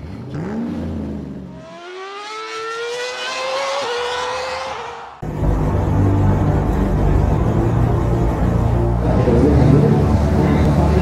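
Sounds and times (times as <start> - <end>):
racing car engine revving: 0.0 - 11.0.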